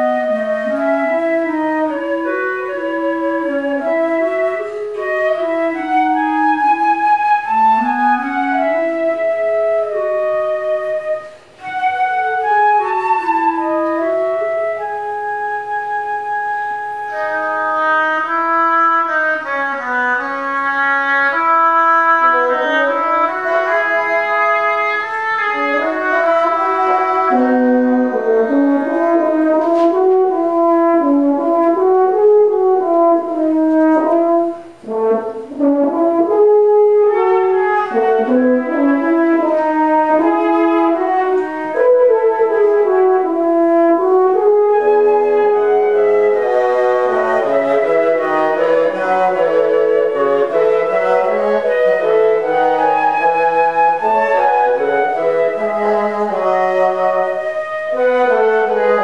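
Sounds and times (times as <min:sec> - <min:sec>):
wind ensemble playing slowly: 0:00.0 - 0:59.0.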